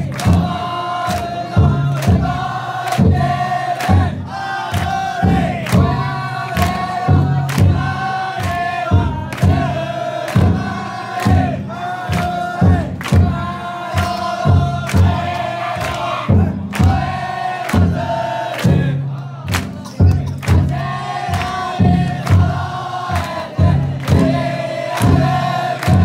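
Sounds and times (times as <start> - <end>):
crowd chanting in unison: 0.0 - 26.0.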